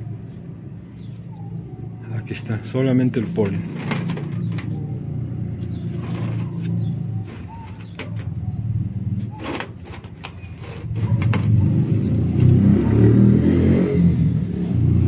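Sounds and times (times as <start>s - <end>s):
engine rumble: 0.0s - 15.0s.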